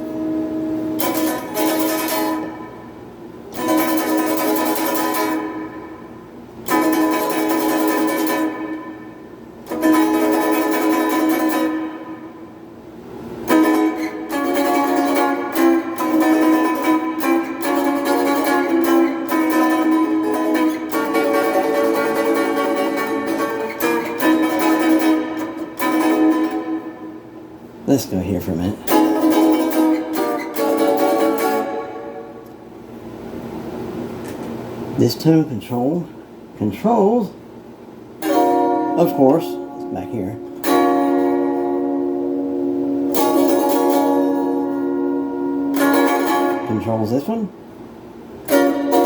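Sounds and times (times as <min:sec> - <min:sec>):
electric guitar chords: 0:00.0 - 0:35.0, 0:37.4 - 0:49.0.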